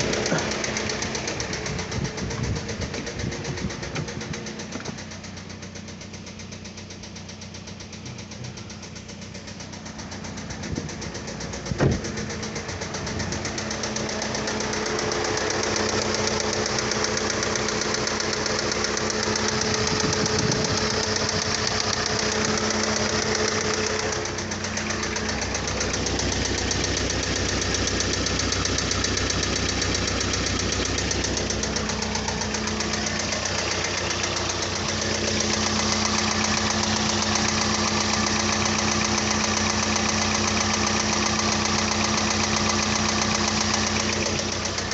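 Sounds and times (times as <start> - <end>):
engine running with knocking: 0.0 - 44.9.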